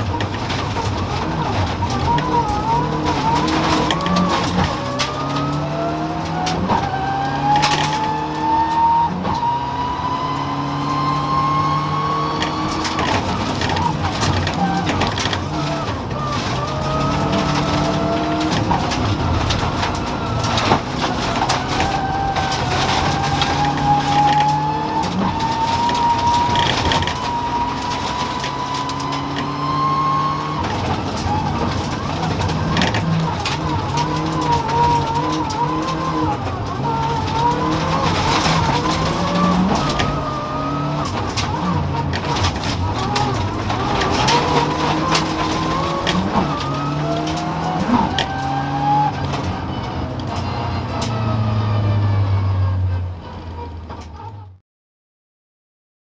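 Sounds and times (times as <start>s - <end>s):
rally car engine revving: 0.0s - 54.6s.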